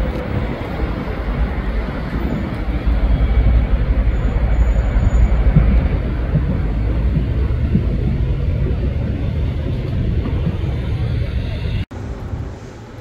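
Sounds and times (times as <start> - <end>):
urban background rumble: 0.0 - 13.0.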